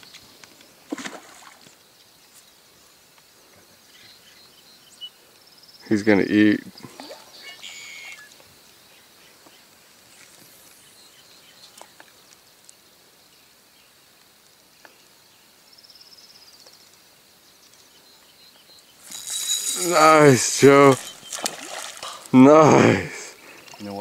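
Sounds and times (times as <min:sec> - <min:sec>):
faint outdoor ambience: 0:00.0 - 0:24.0.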